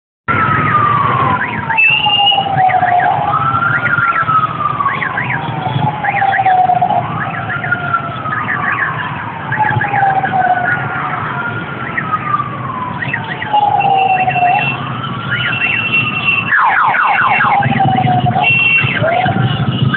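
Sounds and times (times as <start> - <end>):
wailing siren: 0.3 - 19.9.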